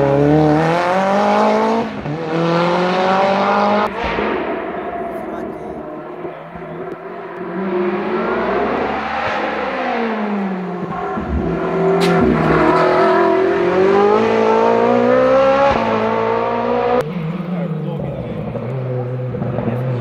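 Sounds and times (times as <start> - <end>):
car engine accelerating past: 0.0 - 20.0.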